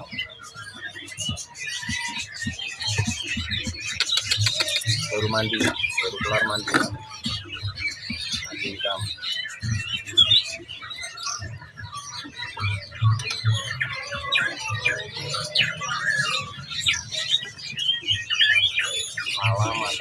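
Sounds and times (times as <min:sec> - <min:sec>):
songbirds chirping and calling: 0:00.0 - 0:20.0.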